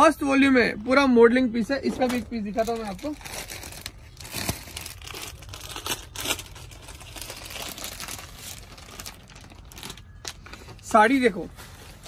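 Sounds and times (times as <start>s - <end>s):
plastic and paper crinkling: 1.7s - 12.0s.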